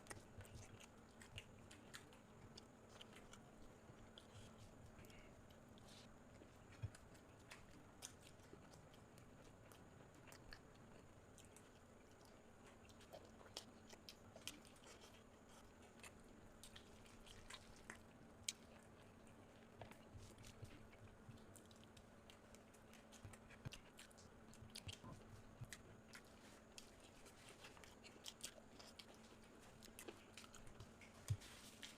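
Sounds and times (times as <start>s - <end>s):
faint steady hum: 0.0s - 31.9s
person chewing: 0.0s - 31.9s.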